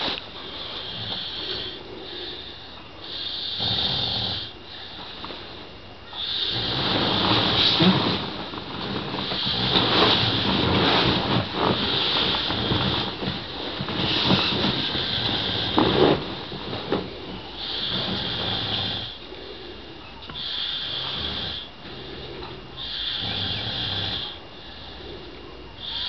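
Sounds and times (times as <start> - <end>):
person snoring heavily: 0.0 - 5.2, 6.1 - 26.0.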